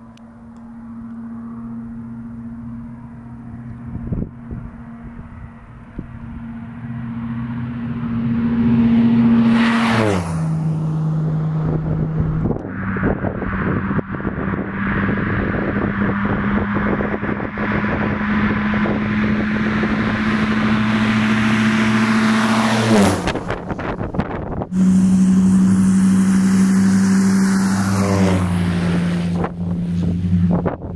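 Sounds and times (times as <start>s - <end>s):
plane engine flying by: 0.0s - 30.9s.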